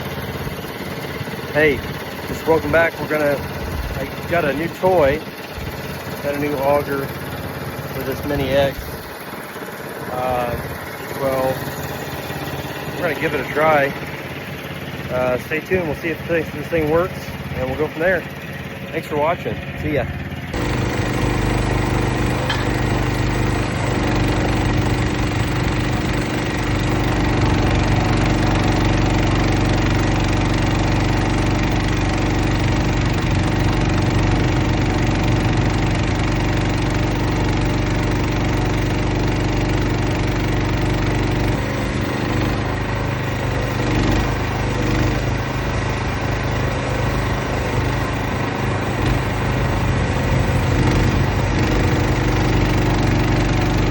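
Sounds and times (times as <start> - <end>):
excavator engine under hydraulic load: 0.0 - 53.9.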